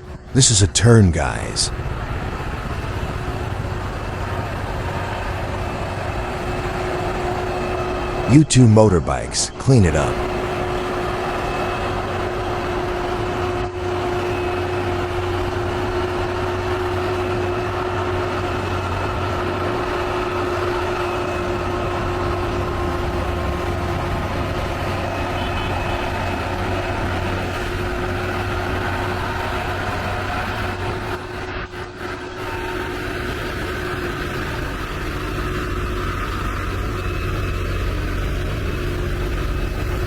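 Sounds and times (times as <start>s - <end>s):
heavy truck engines running: 0.0s - 40.0s.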